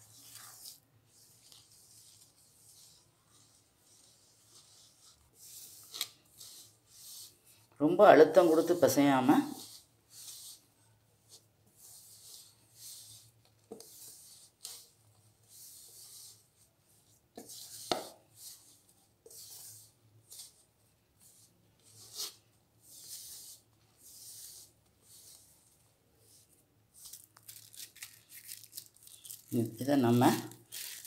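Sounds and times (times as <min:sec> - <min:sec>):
hands rubbing dough: 0:00.0 - 0:31.0.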